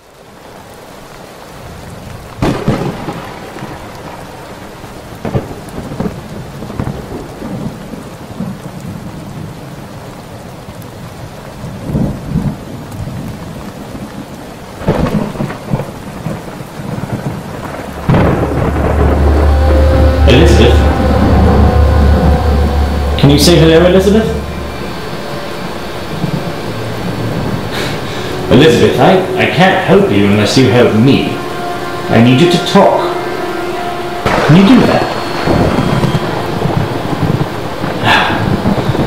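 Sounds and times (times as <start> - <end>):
heavy rain falling: 0.0 - 39.0
thunder cracks and rumbles: 0.6 - 39.0.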